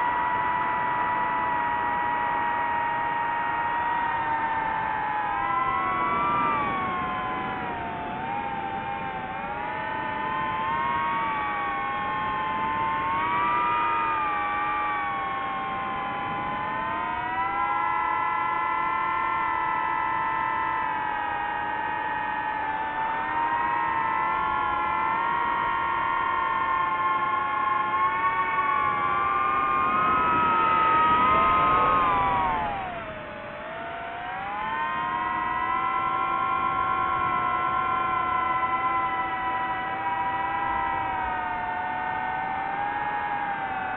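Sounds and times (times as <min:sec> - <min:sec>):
quadcopter propellers whining: 0:00.0 - 0:43.9.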